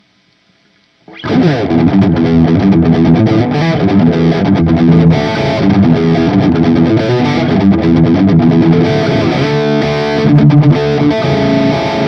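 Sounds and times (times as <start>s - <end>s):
distorted electric guitar: 1.0s - 12.0s.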